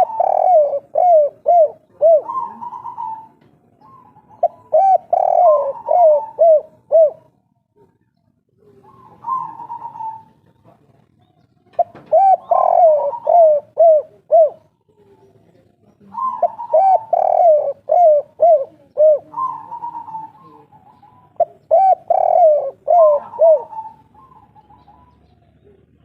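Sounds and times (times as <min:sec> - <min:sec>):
dove cooing: 0:00.0 - 0:08.0, 0:08.6 - 0:10.6, 0:11.6 - 0:26.0.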